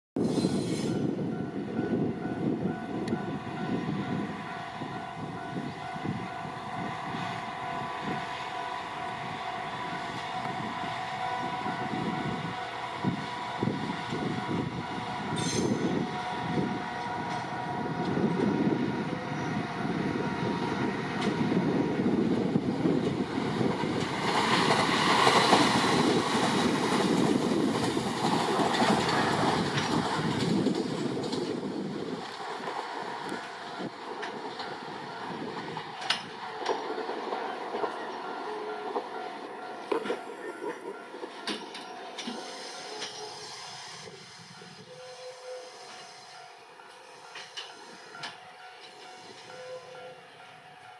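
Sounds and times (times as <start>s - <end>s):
train engine and motor tones: 0.2s - 50.9s
train wheels rumbling on rail: 0.2s - 50.9s.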